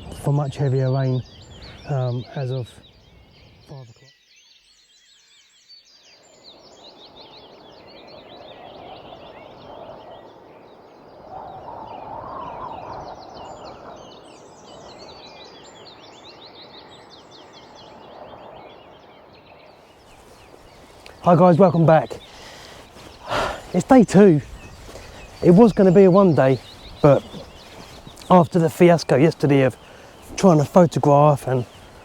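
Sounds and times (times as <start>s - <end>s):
birds chirping and twittering: 0.0s - 32.0s.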